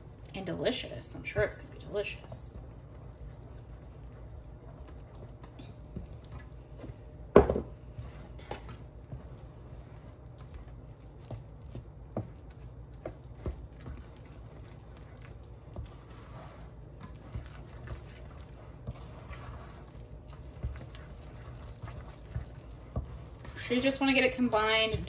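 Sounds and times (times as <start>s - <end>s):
dough squishing: 0.0s - 25.0s.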